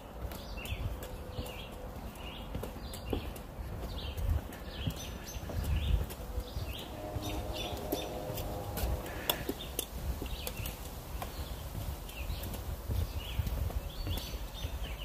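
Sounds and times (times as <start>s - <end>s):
footsteps on forest trail: 0.0s - 15.0s.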